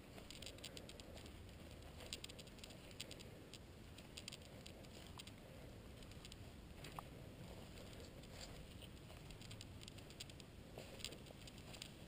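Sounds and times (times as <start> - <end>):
footsteps on leafy grassy trail: 0.0 - 3.2, 3.8 - 12.0.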